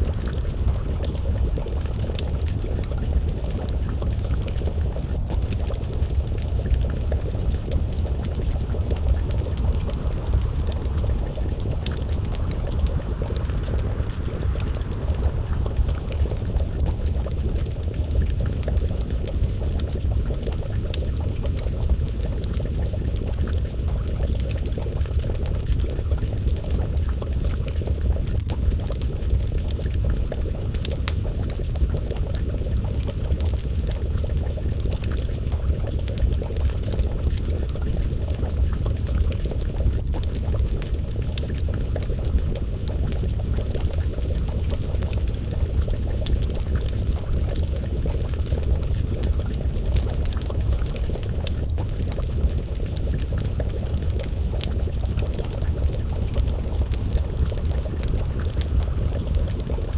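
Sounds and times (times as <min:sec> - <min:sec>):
stew bubbling in a pot: 0:00.0 - 0:59.9
wood fire crackling: 0:00.0 - 0:59.9.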